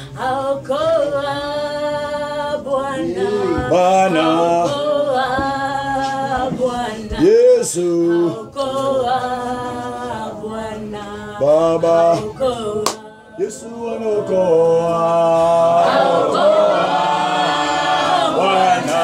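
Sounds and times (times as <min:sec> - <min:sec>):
unaccompanied worship singing: 0:00.0 - 0:19.0.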